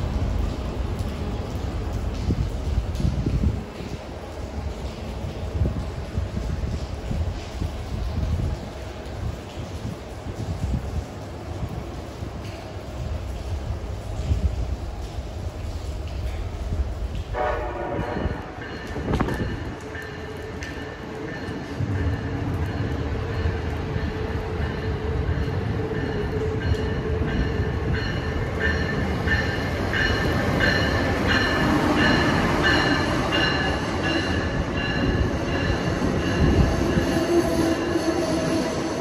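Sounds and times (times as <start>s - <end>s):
train rolling past: 0.0s - 39.0s.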